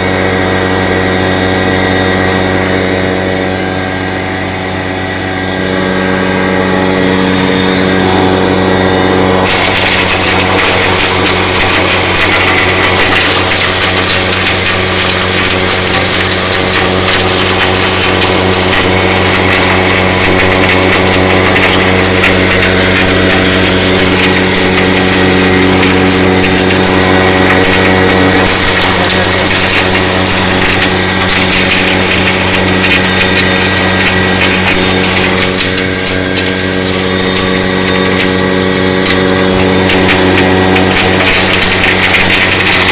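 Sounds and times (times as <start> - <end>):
corn grinding rush: 0.0 - 42.9
grinder motor hum: 0.0 - 42.9.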